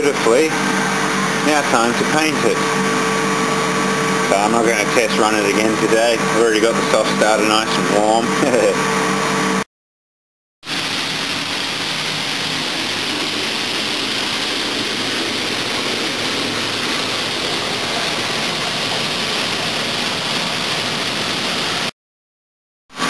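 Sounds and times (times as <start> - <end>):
running water rushing: 0.0 - 9.0, 10.6 - 21.9.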